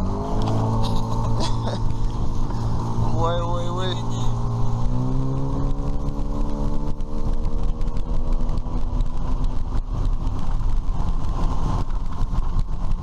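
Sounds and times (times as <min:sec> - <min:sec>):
wind noise: 0:00.0 - 0:13.0.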